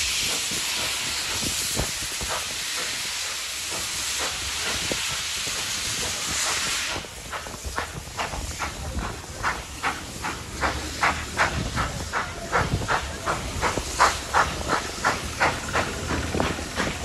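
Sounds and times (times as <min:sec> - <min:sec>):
steam locomotive exhaust chuffs: 0:00.0 - 0:17.0.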